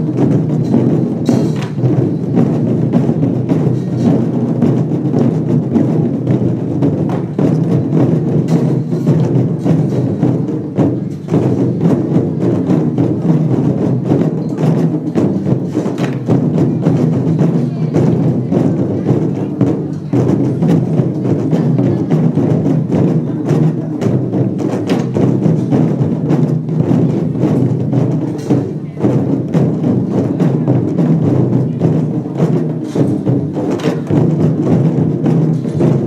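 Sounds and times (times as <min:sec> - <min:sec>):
cymbals clashing: 0:00.0 - 0:36.0
drum beaten fast: 0:00.0 - 0:36.0.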